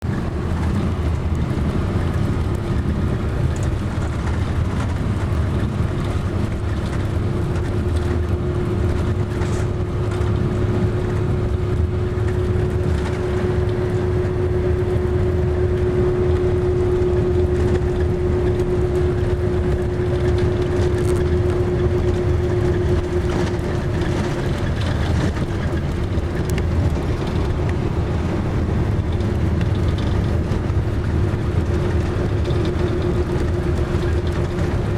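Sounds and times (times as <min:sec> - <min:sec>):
vehicle engine and tyre noise: 0:00.0 - 0:34.9.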